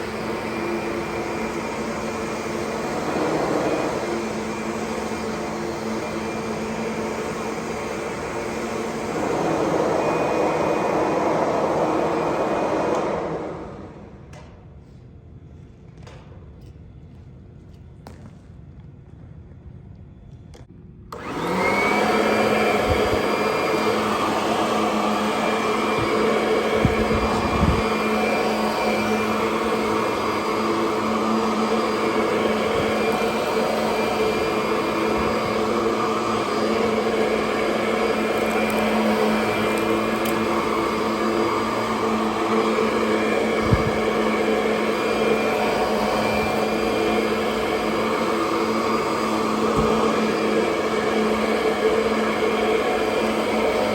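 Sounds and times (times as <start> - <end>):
vacuum cleaner motor running: 0.0 - 14.4, 21.1 - 53.9.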